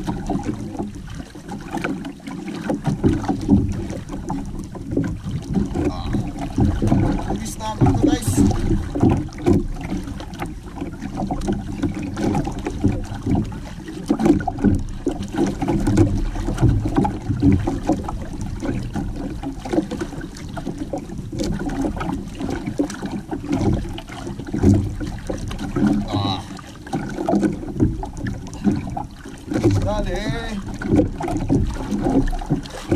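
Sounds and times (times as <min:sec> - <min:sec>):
water sloshing against canoe hull: 0:00.0 - 0:32.9.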